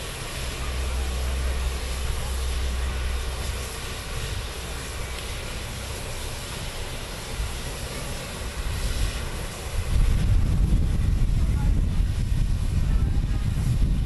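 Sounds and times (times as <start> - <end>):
steam locomotive hissing steam: 0.0 - 14.0.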